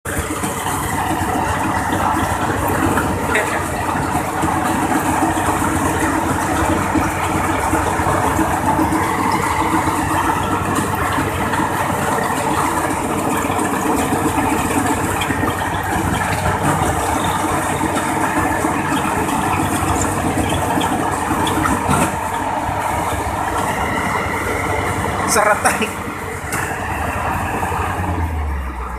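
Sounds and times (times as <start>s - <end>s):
engine-driven machine rattling: 0.0s - 28.9s.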